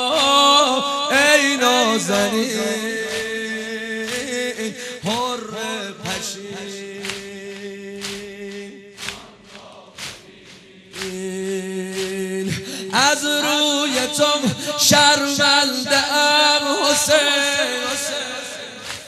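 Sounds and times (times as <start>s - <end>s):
man chanting a lament: 0.0s - 19.0s
sharp rhythmic beats: 0.0s - 19.0s.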